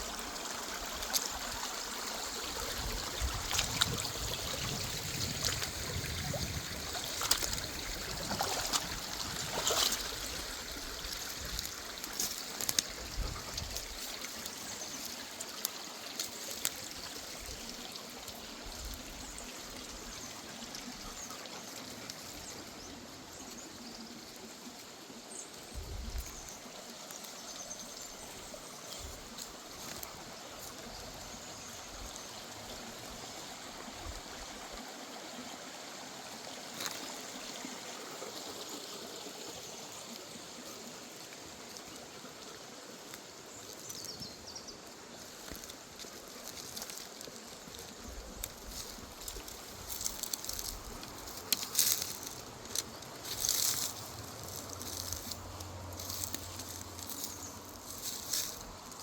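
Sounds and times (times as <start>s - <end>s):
river trickling: 0.0s - 59.0s.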